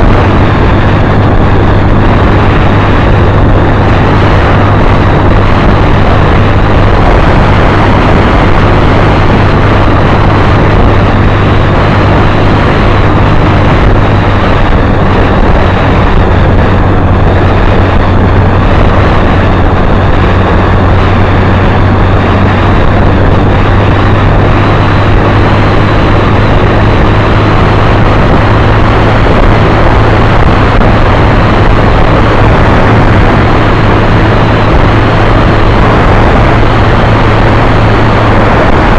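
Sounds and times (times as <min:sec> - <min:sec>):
motorcycle engine drone: 0:00.0 - 0:38.9
wind rush on microphone: 0:00.0 - 0:38.9.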